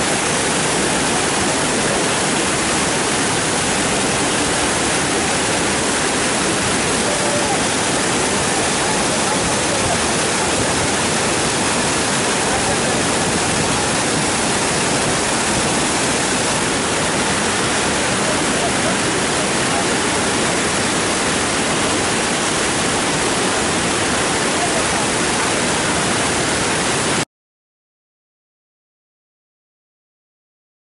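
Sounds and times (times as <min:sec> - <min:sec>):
floodwater rushing: 0:00.0 - 0:27.2.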